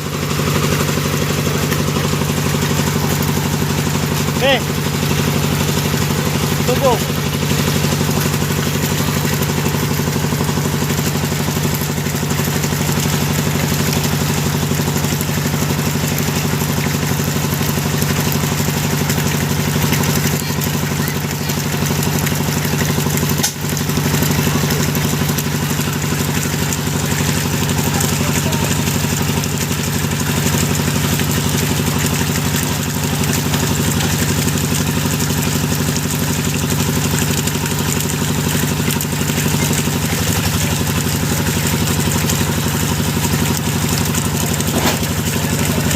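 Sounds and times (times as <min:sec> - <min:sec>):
drilling machine engine running: 0:00.0 - 0:45.9.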